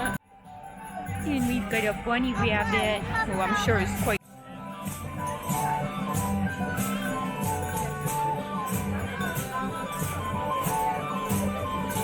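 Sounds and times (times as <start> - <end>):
percussion strokes: 0.0 - 12.0
plucked string melody: 0.0 - 12.0.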